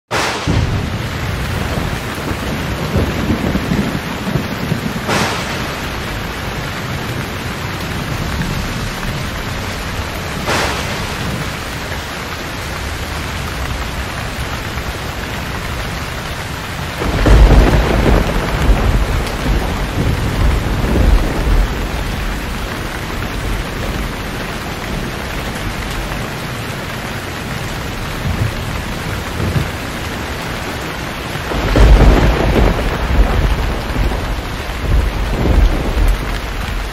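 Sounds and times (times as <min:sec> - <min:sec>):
heavy rain: 0:00.0 - 0:36.9
sharp thunder cracks: 0:00.1 - 0:12.2, 0:16.8 - 0:26.1, 0:28.1 - 0:36.9
rolling thunder: 0:00.1 - 0:36.9.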